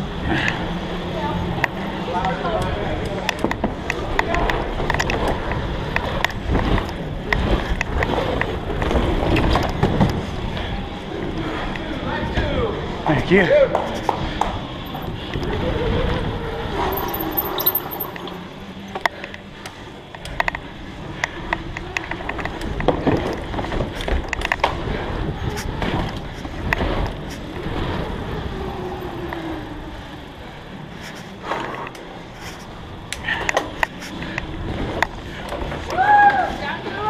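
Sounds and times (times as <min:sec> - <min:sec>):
bike rattling: 0:00.0 - 0:37.0
knobby tyres rumbling: 0:00.0 - 0:37.0
bike clicks and knocks: 0:01.6 - 0:12.0, 0:16.8 - 0:36.4.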